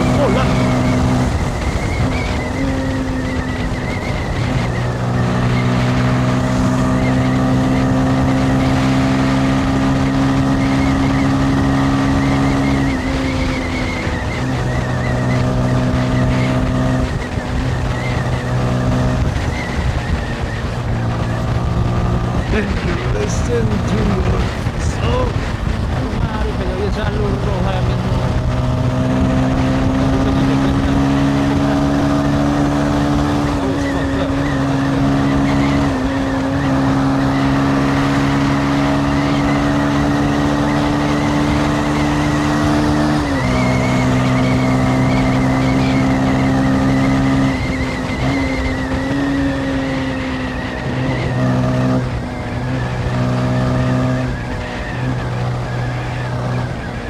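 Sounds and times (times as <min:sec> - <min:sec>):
motorcycle engine cruising: 0:00.0 - 0:57.0
road and wind rumble: 0:00.0 - 0:57.0.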